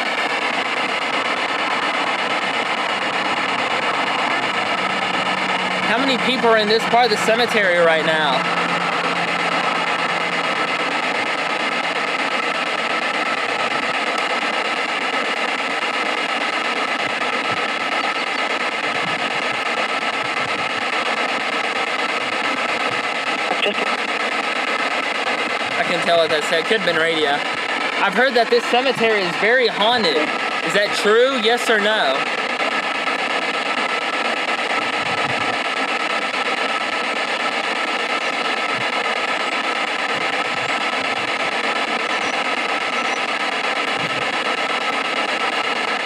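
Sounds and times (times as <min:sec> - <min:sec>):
radio static hiss: 0:00.0 - 0:46.0.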